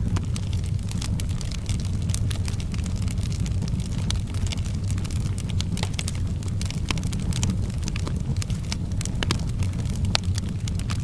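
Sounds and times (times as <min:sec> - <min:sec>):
low rumble: 0:00.0 - 0:11.0
wood fire crackling: 0:00.0 - 0:11.0.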